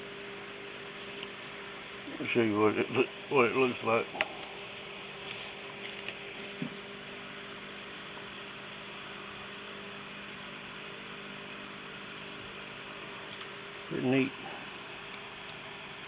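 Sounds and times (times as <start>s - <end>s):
background hum with hiss: 0.0s - 16.0s.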